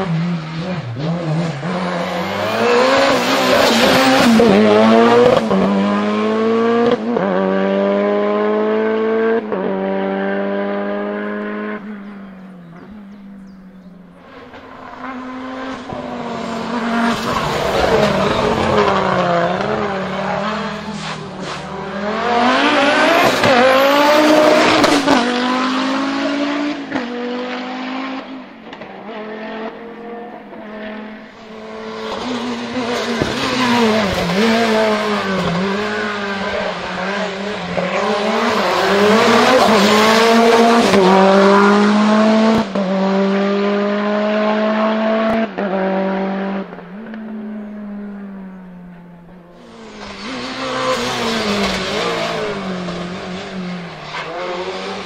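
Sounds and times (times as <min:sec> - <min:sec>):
race cars accelerating: 0:00.0 - 0:55.0.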